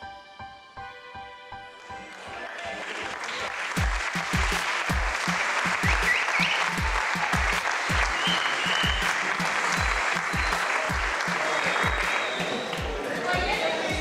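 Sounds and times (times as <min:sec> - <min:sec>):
audience applauding: 0:01.8 - 0:14.0.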